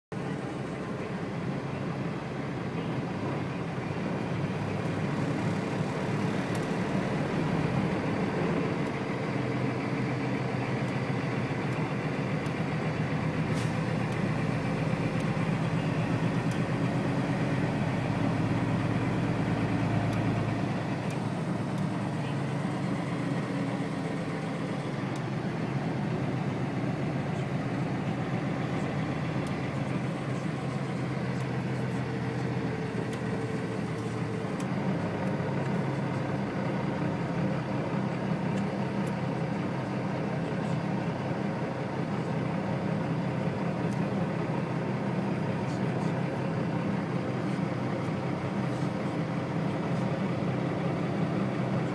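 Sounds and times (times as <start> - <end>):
engine running: 0.1 - 51.9.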